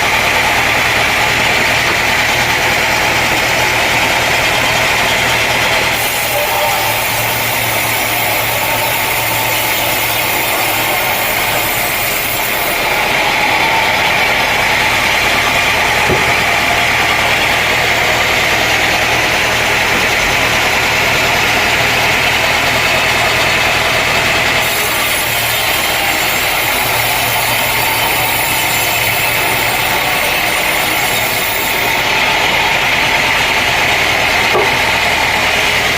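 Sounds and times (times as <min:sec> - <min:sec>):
sawmill machinery humming: 0:00.0 - 0:35.9.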